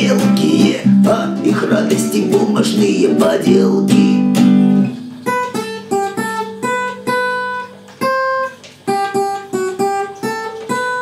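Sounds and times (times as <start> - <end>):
acoustic guitar picked melody: 0.0 - 11.0.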